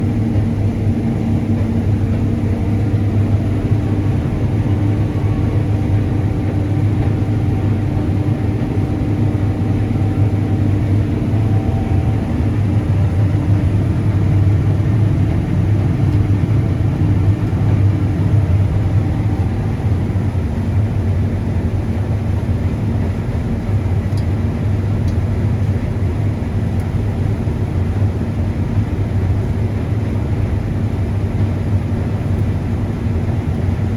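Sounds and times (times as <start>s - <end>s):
combine harvester engine droning: 0.0s - 33.9s.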